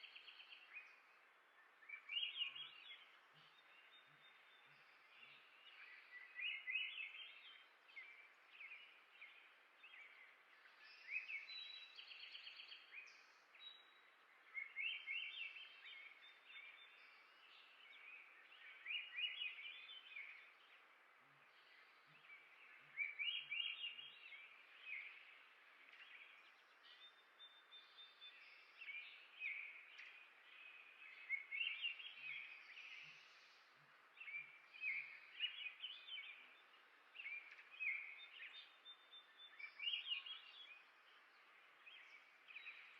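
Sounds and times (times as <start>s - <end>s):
songbird singing trilled phrases: 0.0s - 20.8s, 21.5s - 33.6s, 34.2s - 42.9s
faint outdoor hiss: 0.0s - 42.9s.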